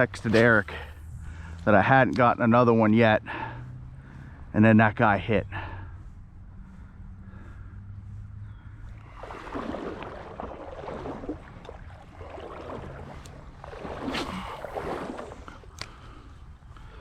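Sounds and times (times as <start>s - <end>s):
creek water splashing: 0.0s - 4.5s, 5.5s - 17.0s
steady low rumble: 0.0s - 17.0s.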